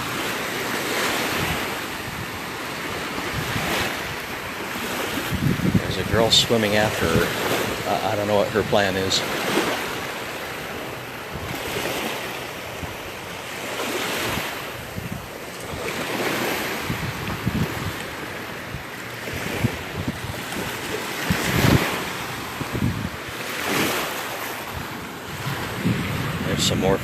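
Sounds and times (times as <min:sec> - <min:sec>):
surf washing onto sandy beach: 0:00.0 - 0:27.0
wind buffeting microphone: 0:00.0 - 0:27.0.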